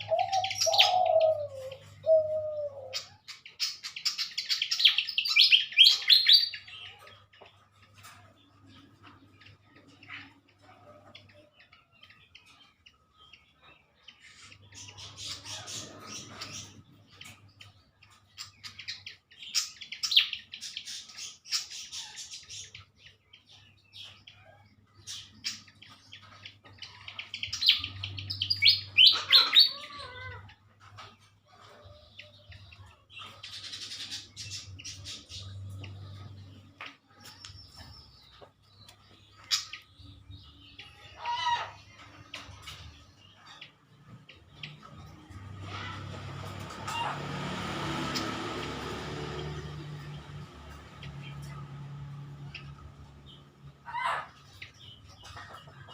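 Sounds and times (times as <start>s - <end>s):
birds chirping squeakily: 0.0s - 55.9s.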